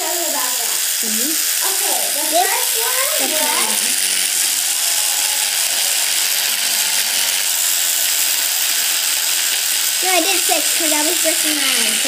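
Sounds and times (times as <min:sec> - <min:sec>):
electric toothbrush running: 0:00.0 - 0:12.0.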